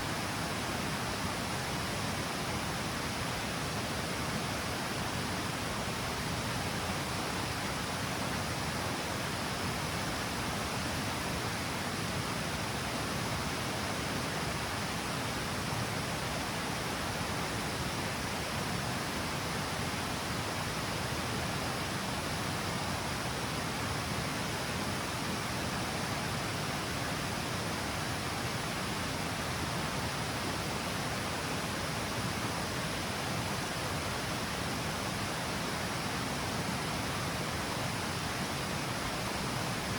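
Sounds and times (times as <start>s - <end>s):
water cascading over falls: 0.0s - 39.9s.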